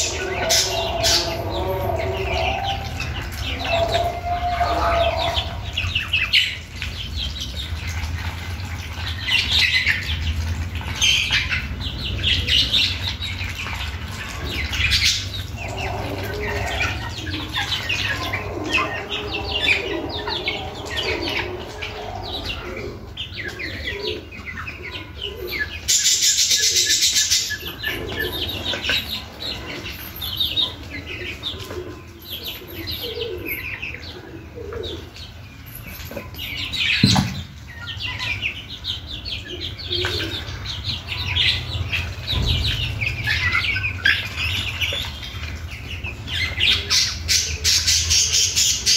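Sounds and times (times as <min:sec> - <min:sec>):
ducklings and chicks chirping: 0:00.0 - 0:48.9.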